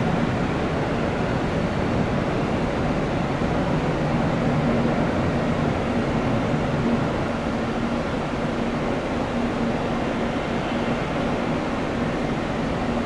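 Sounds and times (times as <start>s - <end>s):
distant jet engines running: 0.0s - 13.0s.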